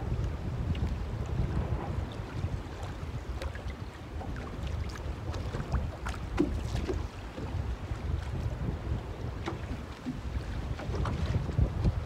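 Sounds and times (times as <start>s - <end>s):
water lapping at boat hull: 0.0s - 12.0s
wind buffeting microphone: 0.0s - 12.0s.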